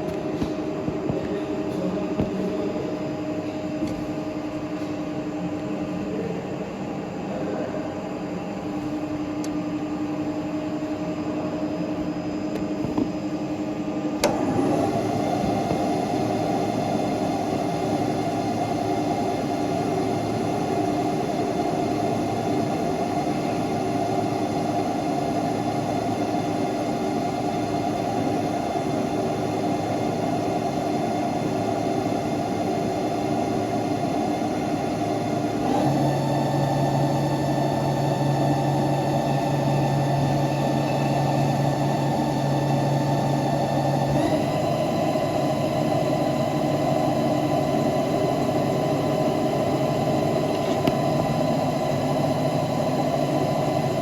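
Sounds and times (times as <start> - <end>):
lathe motor and spindle hum: 0.0 - 54.0
lower machine tone: 0.0 - 54.0.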